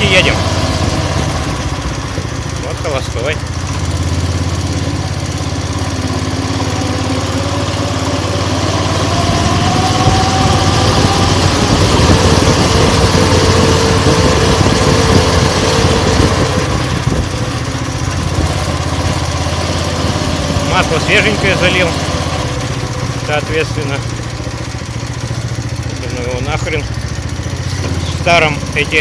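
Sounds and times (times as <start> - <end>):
single-cylinder engine idling and revving: 0.0 - 29.0.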